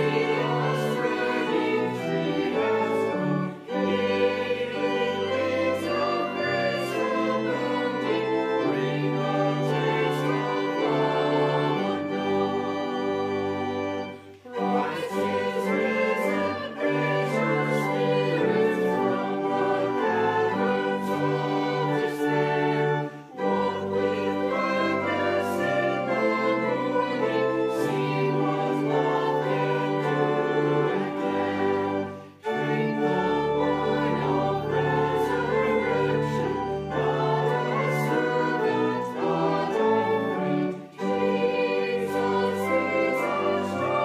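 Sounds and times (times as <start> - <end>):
choir singing a hymn: 0.0 - 44.0
pipe organ: 0.0 - 44.0.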